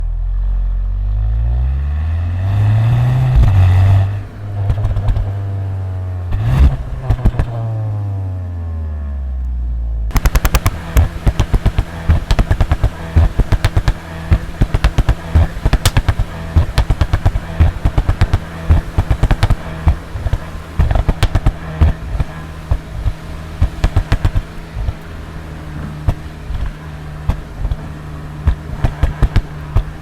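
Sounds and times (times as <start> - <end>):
car engine revving: 0.8 - 9.4, 10.1 - 30.0
exhaust pops and bangs: 3.3 - 8.0, 10.1 - 30.0.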